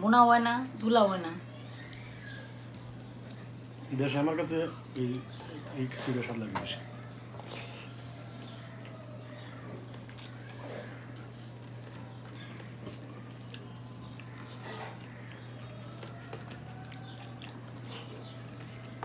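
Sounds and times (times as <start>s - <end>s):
chewing smacks: 1.5s - 4.0s, 4.9s - 19.0s.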